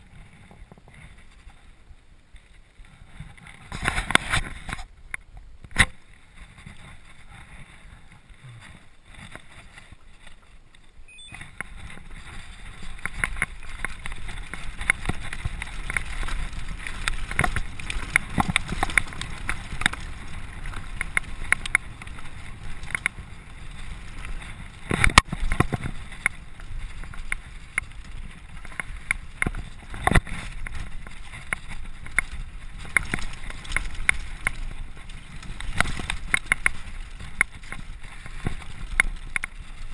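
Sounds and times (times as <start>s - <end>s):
bike rattling over bumps: 0.0s - 39.9s
bike tyres rumbling on dirt: 0.0s - 39.9s.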